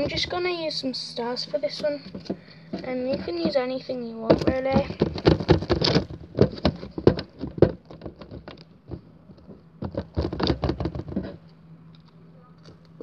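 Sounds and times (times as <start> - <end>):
hands handling craft materials: 1.6 - 13.0.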